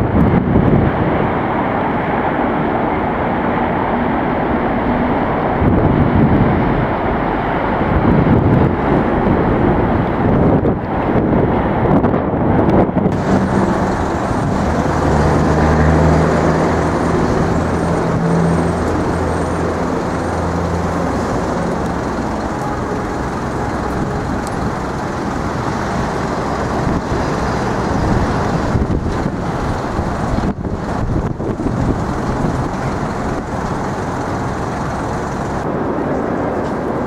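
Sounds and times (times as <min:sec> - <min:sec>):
road traffic passing: 0:00.0 - 0:37.0
vehicle engine low drone: 0:00.0 - 0:37.0.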